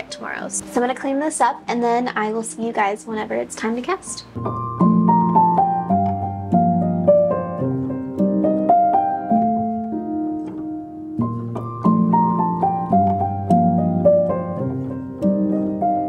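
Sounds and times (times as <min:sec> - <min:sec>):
piano-like instrumental music: 0:00.0 - 0:16.0.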